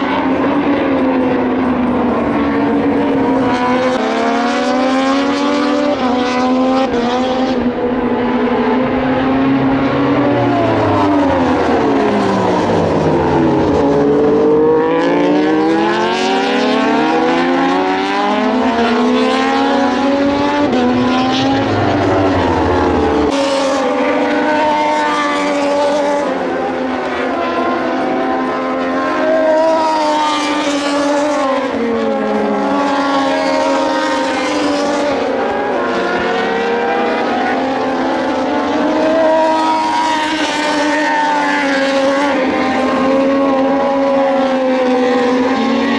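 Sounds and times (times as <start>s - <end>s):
race motorcycles passing at speed: 0.0s - 45.9s.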